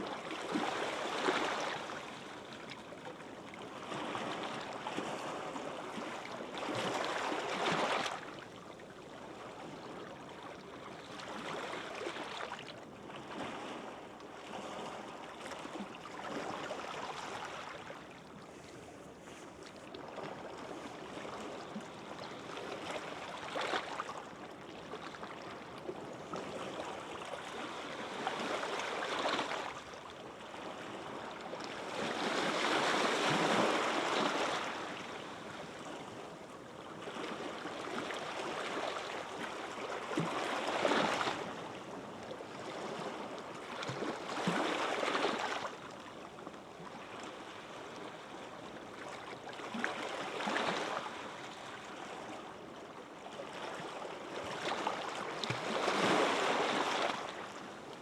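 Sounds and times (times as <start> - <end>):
small waves breaking on a beach: 0.0 - 58.0.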